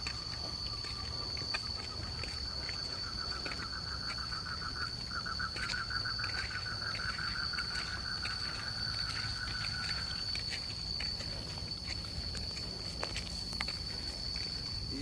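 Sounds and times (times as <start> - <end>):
insect pulsing trill: 0.0 - 15.0
insects high-pitched drone: 0.0 - 15.0.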